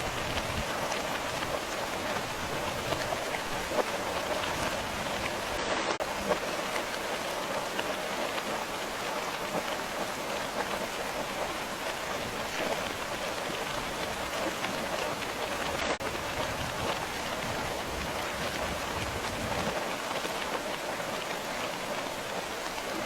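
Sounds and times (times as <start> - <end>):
steady rain pattering: 0.0 - 23.0.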